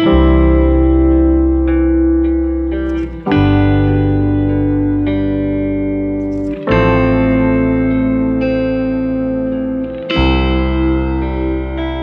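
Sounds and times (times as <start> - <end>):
guitar chords and notes: 0.0 - 12.0.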